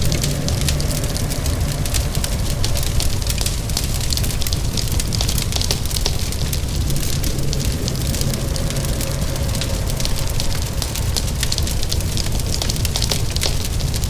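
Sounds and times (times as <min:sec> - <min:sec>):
low rumble: 0:00.0 - 0:14.0
steady rain: 0:00.0 - 0:14.0
wood fire crackling and popping: 0:00.0 - 0:14.0.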